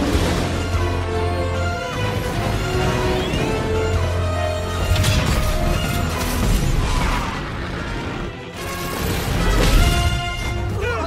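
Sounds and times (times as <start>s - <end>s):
orchestral action music: 0.0s - 11.0s.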